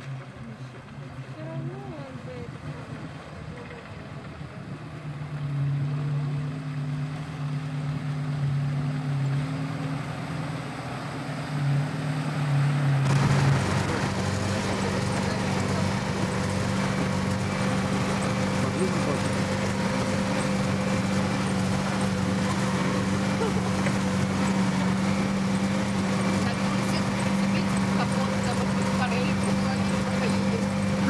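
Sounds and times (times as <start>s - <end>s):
off-road vehicle engine running: 0.0s - 31.0s
water rushing against vehicle body: 0.0s - 31.0s
water splashing around wheels: 0.0s - 31.0s.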